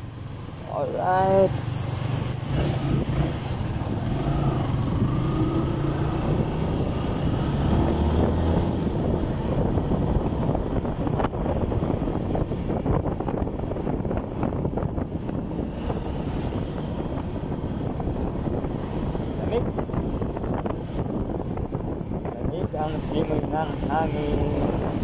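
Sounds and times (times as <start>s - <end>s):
wind buffeting the microphone: 0.8s - 25.0s.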